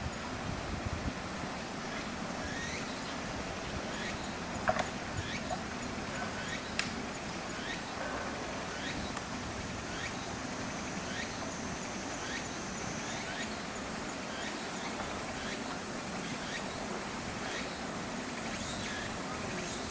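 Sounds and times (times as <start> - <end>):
insects chirping: 0.0 - 19.9.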